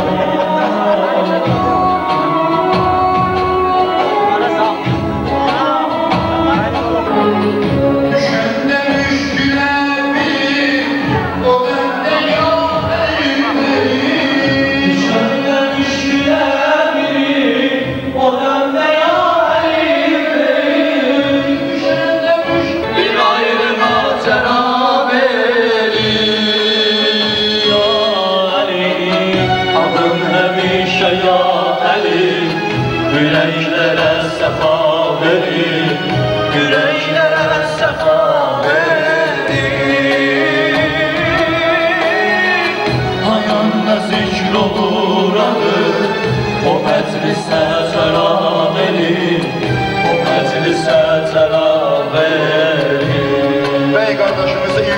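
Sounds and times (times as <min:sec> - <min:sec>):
man singing: 0:00.0 - 0:54.9
men chanting a hymn: 0:00.0 - 0:54.9.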